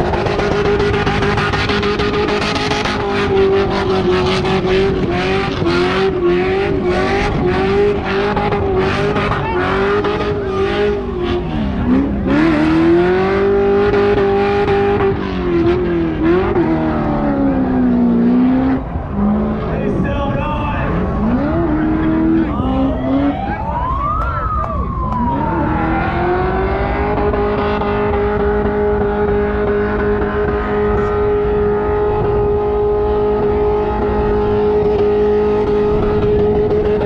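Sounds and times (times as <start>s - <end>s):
engine revving high: 0.0s - 37.0s.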